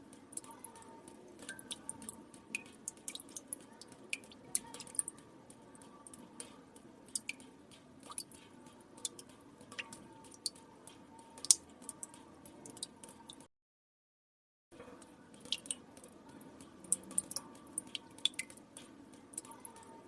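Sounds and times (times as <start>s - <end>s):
water drops dripping into water: 0.0s - 13.5s, 14.8s - 20.0s.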